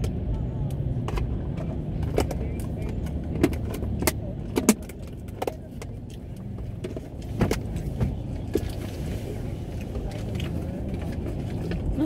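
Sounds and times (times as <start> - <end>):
low hum inside a car: 0.0 - 12.0.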